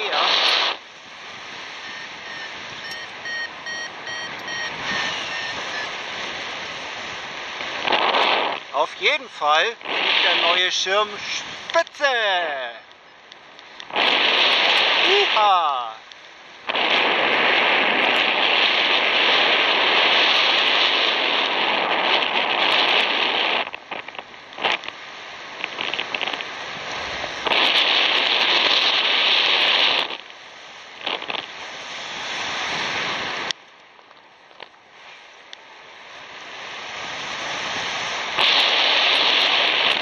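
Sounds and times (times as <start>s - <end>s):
wind rushing over microphone: 0.0s - 33.6s, 34.5s - 40.0s.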